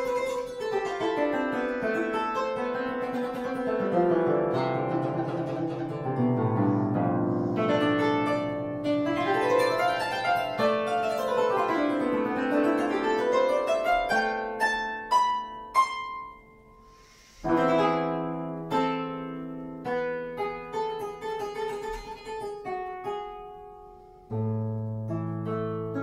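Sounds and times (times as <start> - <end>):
solo harp playing: 0.0 - 26.0.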